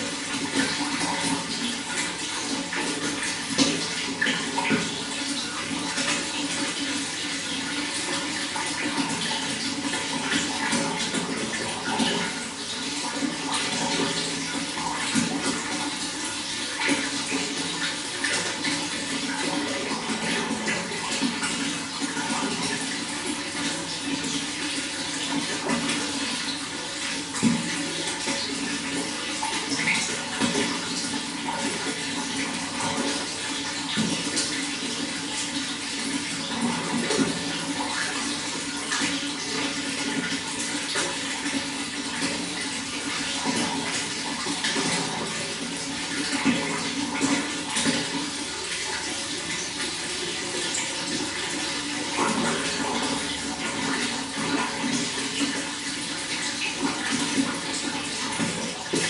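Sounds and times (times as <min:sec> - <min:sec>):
running water splashing and gurgling: 0:00.0 - 0:59.0.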